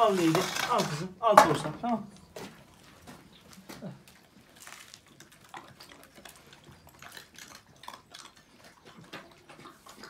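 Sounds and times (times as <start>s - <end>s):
dogs chewing and lapping: 1.5s - 10.0s.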